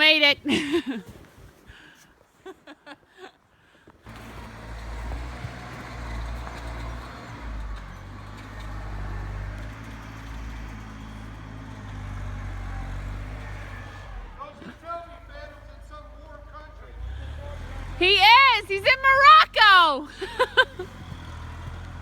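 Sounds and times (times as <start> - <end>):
vehicle engine running: 4.1 - 22.0.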